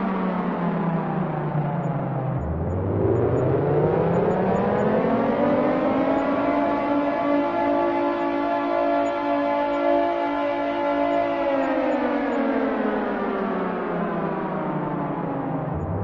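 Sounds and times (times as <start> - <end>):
air raid siren: 0.0 - 16.0.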